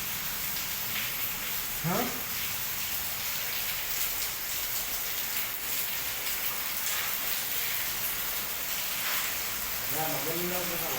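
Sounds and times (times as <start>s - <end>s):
hiss of falling water: 0.0s - 10.9s.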